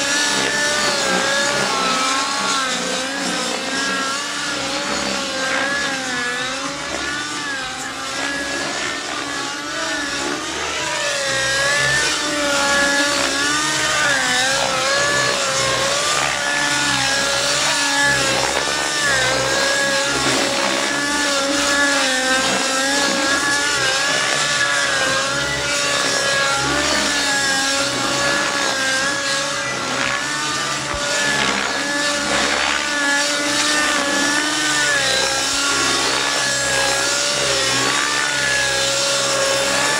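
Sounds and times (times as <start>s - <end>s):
model helicopter engine and rotor: 0.0s - 39.9s.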